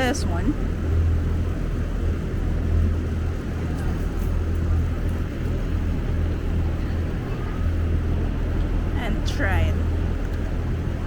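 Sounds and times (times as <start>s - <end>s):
ventilation fans droning: 0.0s - 11.0s.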